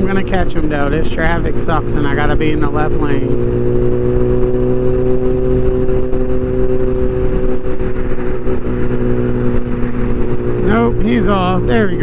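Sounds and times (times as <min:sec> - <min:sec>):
motorcycle engine running: 0:00.0 - 0:12.0
wind rumbling on microphone: 0:00.0 - 0:12.0.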